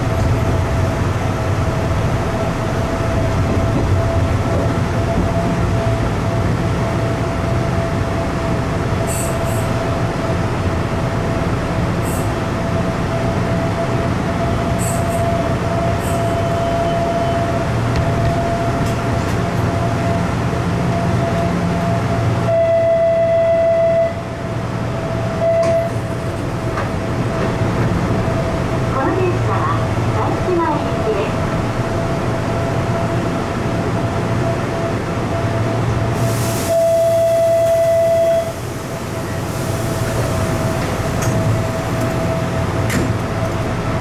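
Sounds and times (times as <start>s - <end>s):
train rumble and wheel noise: 0.0s - 44.0s.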